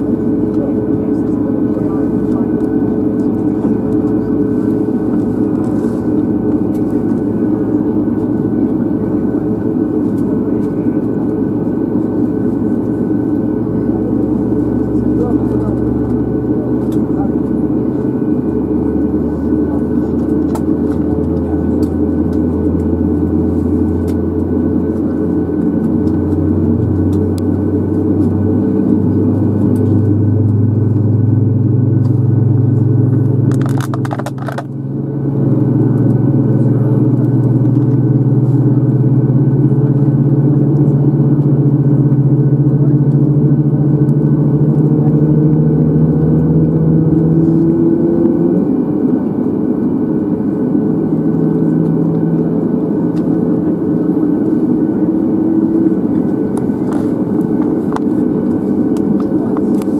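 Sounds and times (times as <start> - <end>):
aircraft cabin drone: 0.0 - 59.9.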